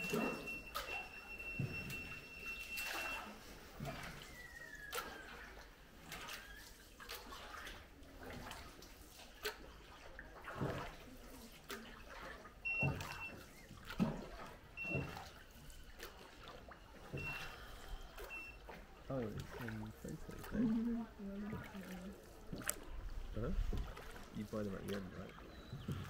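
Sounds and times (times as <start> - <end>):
oars pulling through water: 0.0 - 26.0
water splashes and drips: 0.0 - 26.0.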